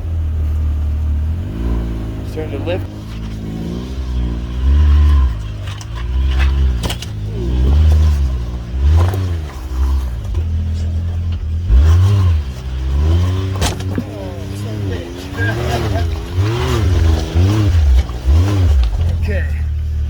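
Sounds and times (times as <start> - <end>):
utility vehicle engine revving: 0.0 - 20.0.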